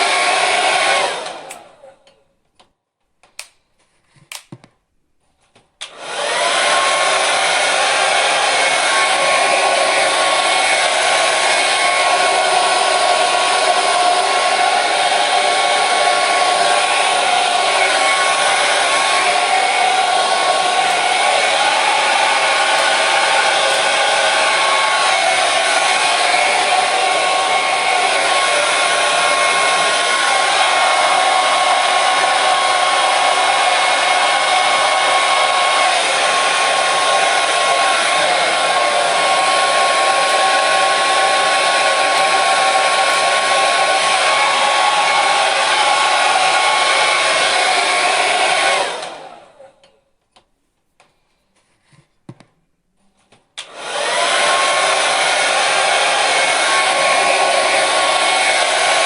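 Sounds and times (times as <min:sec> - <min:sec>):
hair dryer blowing: 0:00.0 - 0:02.0, 0:05.8 - 0:49.9, 0:53.6 - 0:59.0.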